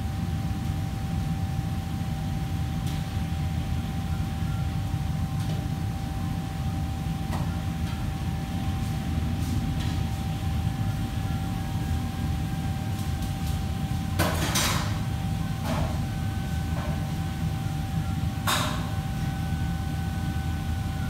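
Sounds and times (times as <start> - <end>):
kitchen machinery humming: 0.0 - 21.0.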